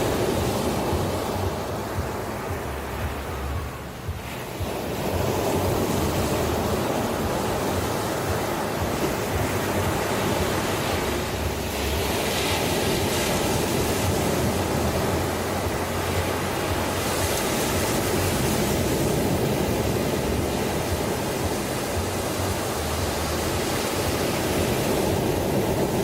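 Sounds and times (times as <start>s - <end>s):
ocean surf washing in: 0.0s - 26.0s.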